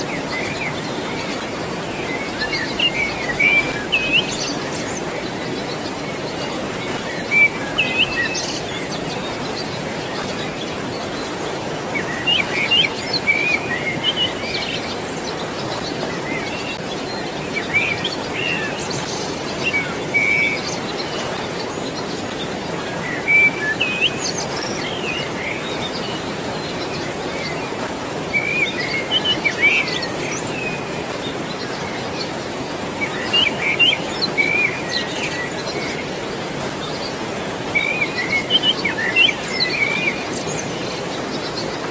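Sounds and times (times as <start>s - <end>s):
rushing water: 0.0s - 41.9s
songbirds chirping: 0.0s - 41.9s.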